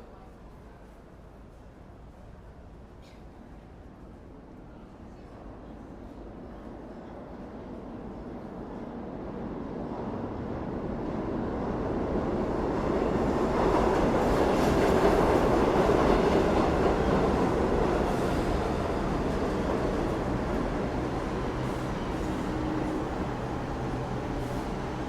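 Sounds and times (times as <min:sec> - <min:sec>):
subway train rumbling on rails: 0:00.0 - 0:25.0.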